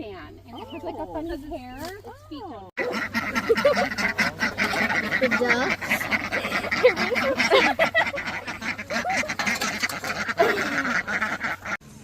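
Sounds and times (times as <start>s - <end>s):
ducks quacking: 0.0s - 11.8s.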